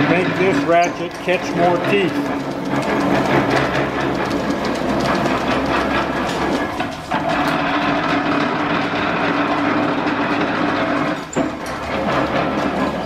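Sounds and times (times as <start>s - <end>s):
metal planer clattering: 0.0s - 13.0s.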